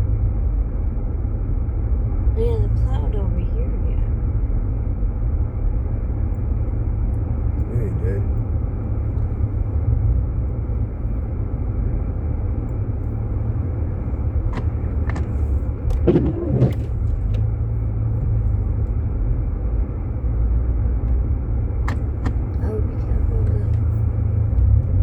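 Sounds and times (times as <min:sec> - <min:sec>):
car engine rumble inside cabin: 0:00.0 - 0:25.0.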